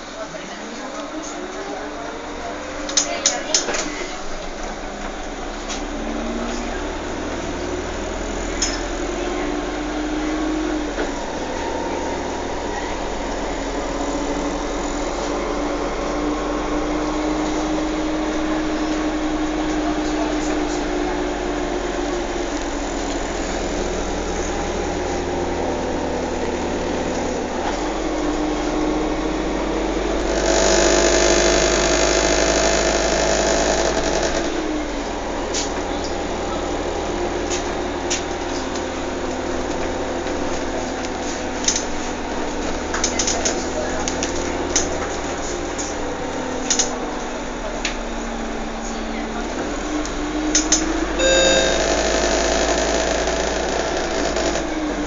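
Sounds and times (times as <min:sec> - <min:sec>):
vehicle engine rumble and whine: 0:00.0 - 0:55.0.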